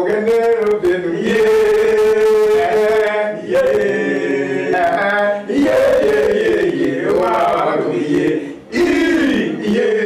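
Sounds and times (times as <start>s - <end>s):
gospel choir singing: 0.0s - 10.0s.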